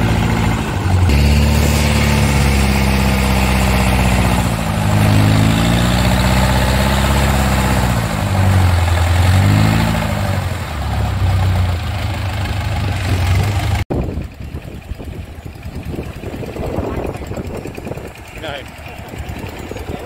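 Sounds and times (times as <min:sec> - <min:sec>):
combine harvester diesel engine: 0:00.0 - 0:20.0.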